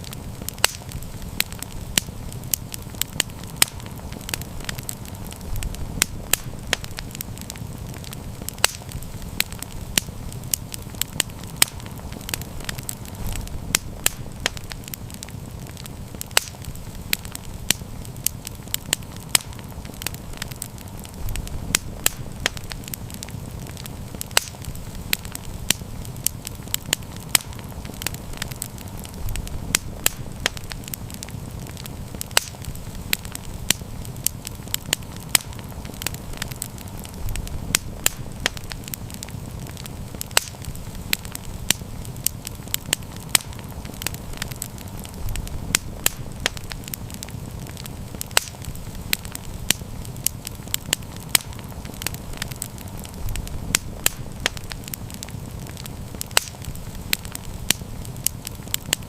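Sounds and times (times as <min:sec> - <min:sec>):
campfire crackling and popping: 0:00.0 - 0:59.0
low rush of burning: 0:00.0 - 0:59.0.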